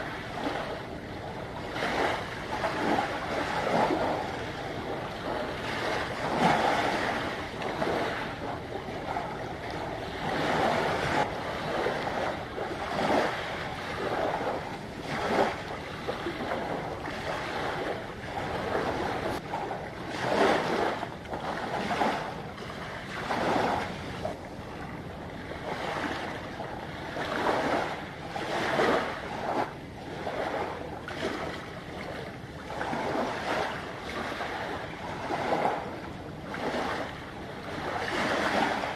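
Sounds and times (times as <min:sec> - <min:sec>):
small waves washing in: 0:00.0 - 0:38.9
wind on microphone: 0:00.0 - 0:38.9.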